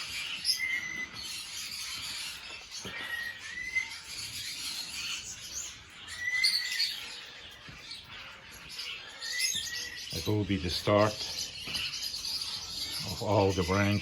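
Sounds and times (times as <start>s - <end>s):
lovebirds chirping: 0.0s - 14.0s.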